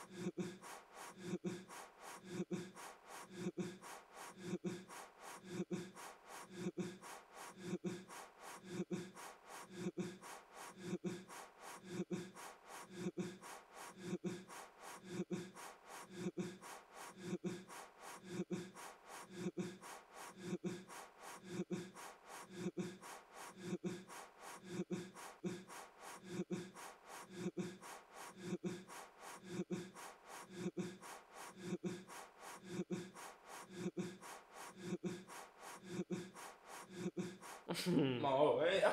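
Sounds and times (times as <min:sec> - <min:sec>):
person blowing puffs of breath: 0:00.0 - 0:38.0.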